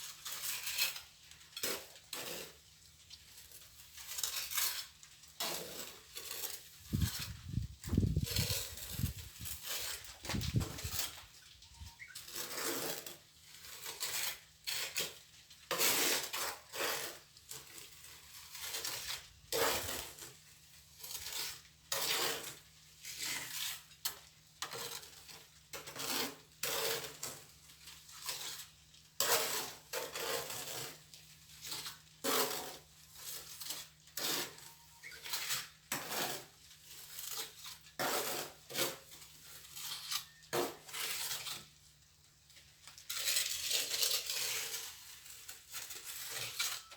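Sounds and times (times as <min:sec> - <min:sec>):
trowel scraping cement mortar: 0:00.0 - 0:02.6, 0:03.6 - 0:11.4, 0:12.0 - 0:41.8, 0:43.0 - 0:46.9.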